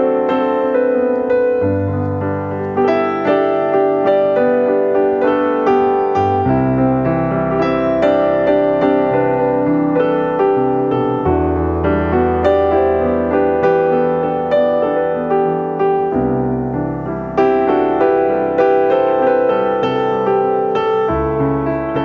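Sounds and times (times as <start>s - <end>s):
slow gentle piano music: 0.0s - 22.0s.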